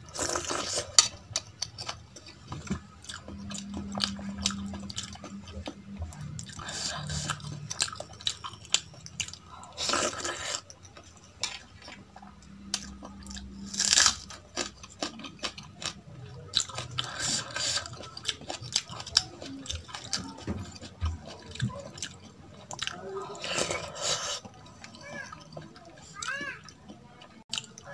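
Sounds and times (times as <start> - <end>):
chewing: 0.0 - 27.9.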